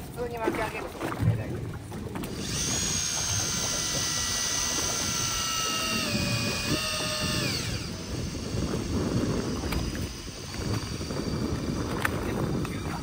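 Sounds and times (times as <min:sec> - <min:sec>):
fishing reel motor whining: 0:02.2 - 0:13.0.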